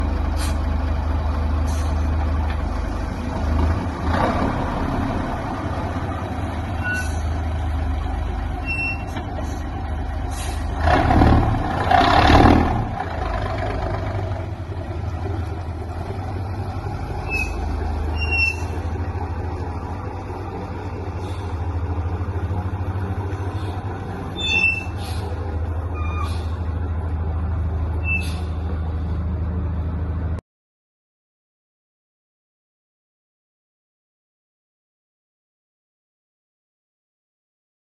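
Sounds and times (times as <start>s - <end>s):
diesel truck engine idling: 0.0s - 30.4s.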